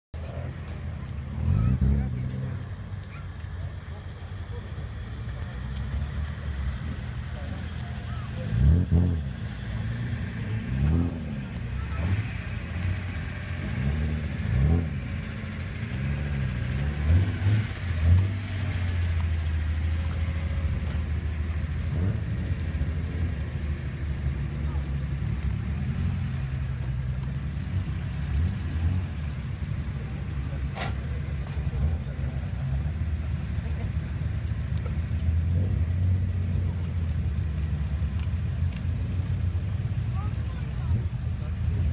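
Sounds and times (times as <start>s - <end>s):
car exhaust rumbling: 0.2s - 41.9s.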